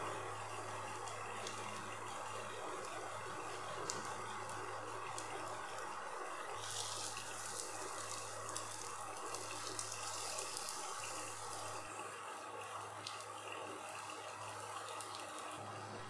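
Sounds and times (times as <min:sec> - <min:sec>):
pancake sizzling in oil: 0:00.0 - 0:16.0.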